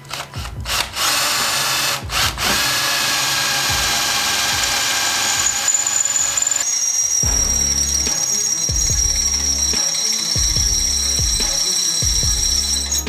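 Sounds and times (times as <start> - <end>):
cordless drill whining: 0.0 - 13.0.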